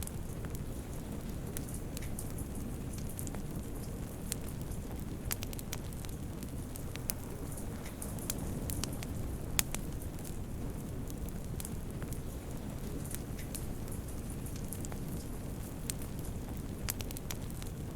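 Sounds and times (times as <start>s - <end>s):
fire pops and snaps: 0.0s - 17.9s
wood fire crackling: 0.0s - 17.9s.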